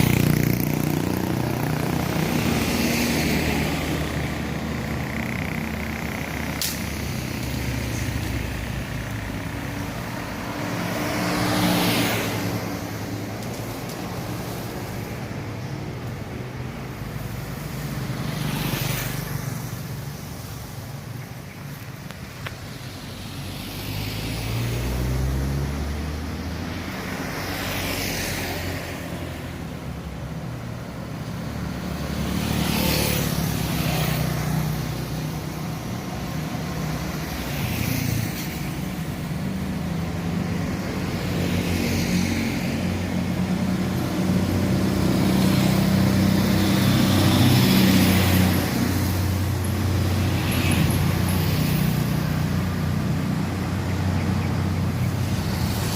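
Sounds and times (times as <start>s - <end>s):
vehicles passing: 0.0s - 55.9s.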